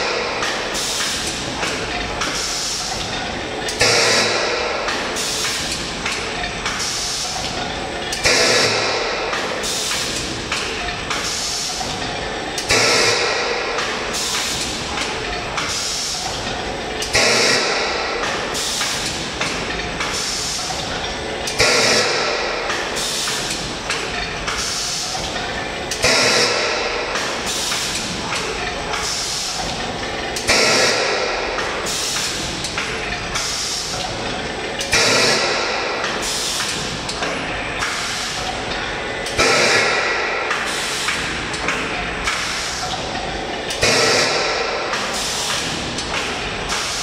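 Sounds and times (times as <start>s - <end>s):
steady machine noise: 0.0s - 47.0s.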